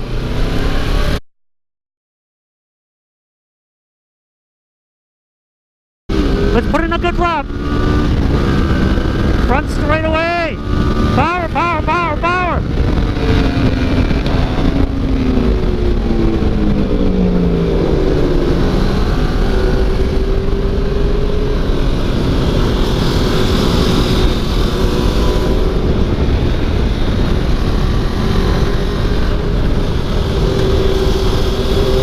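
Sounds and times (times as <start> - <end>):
motorcycle engine running hard: 6.1 - 32.0
wind rush on microphone: 6.1 - 32.0.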